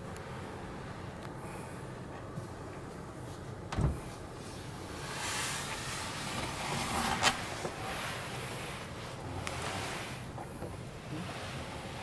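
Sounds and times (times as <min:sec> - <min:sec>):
cushions and boards rustling: 0:02.3 - 0:12.0.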